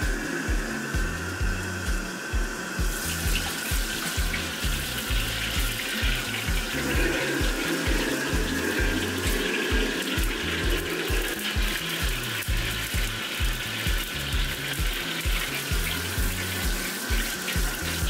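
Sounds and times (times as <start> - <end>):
background music with bass beat: 0.0 - 18.0
gas wok burner hissing: 0.0 - 18.0
tap running water: 0.0 - 18.0.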